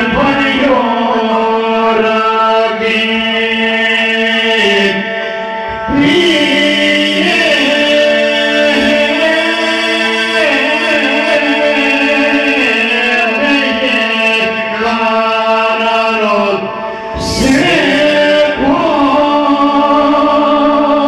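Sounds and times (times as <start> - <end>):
men singing through microphones: 0.0 - 5.1, 5.7 - 21.0.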